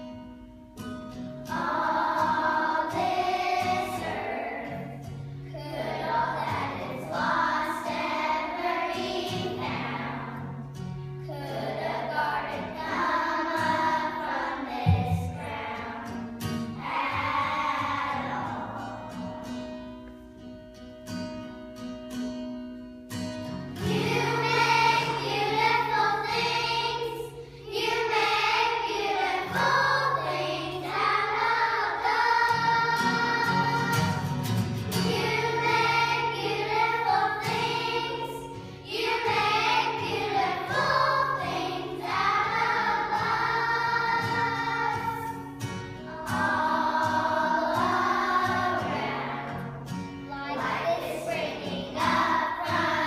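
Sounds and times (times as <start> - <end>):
strummed acoustic guitar: 0.0 - 53.0
children's choir singing: 0.8 - 20.0, 23.8 - 53.0.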